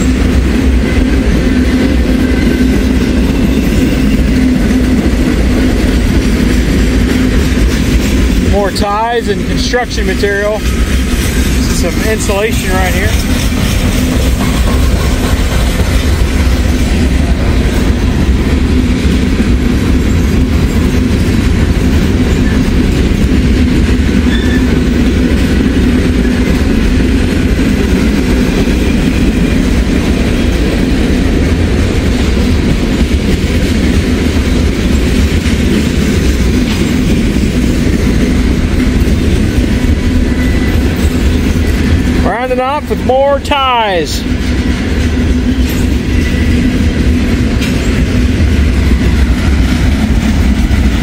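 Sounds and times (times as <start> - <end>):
freight train wheels rumbling on rails: 0.0 - 51.0.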